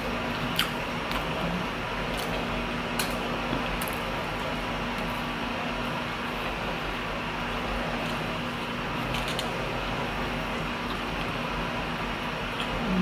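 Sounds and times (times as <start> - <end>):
room hum and hiss: 0.0 - 13.0.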